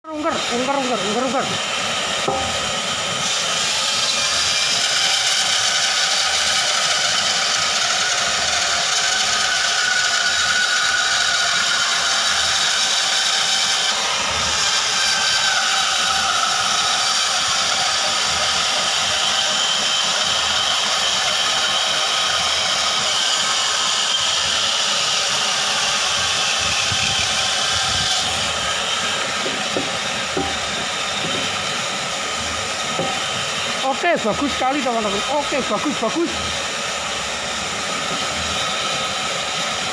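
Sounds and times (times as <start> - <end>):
power saw cutting wood: 0.1 - 39.9.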